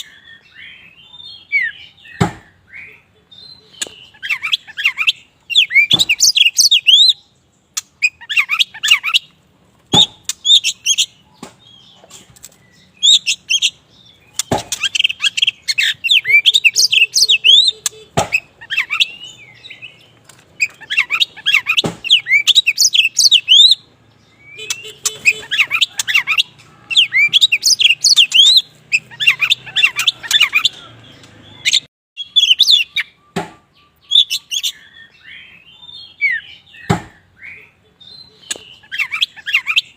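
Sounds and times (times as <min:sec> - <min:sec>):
bird singing whistled phrases: 0:00.0 - 0:07.2, 0:12.7 - 0:20.0, 0:20.6 - 0:30.8, 0:31.5 - 0:39.9.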